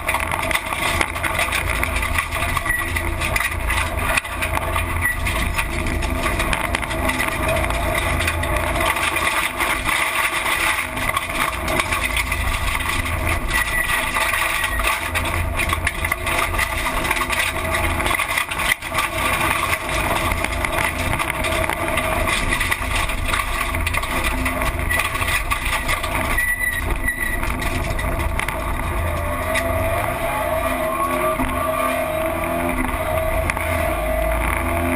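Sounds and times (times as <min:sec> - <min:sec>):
rally car engine running hard: 0:00.0 - 0:34.9
tyre and road noise: 0:00.0 - 0:34.9.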